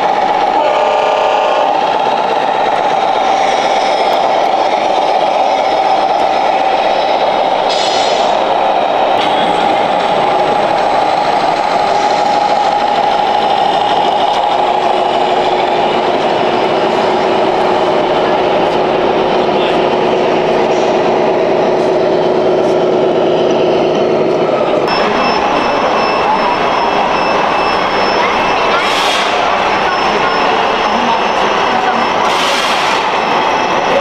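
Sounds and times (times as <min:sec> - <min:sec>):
simulated diesel engine sound: 0:00.0 - 0:34.0.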